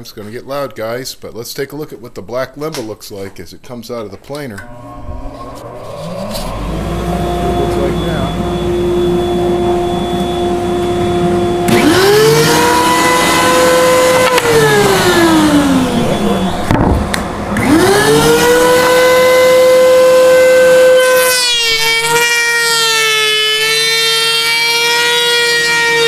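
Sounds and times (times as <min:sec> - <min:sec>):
planer motor whining: 0:04.6 - 0:26.0.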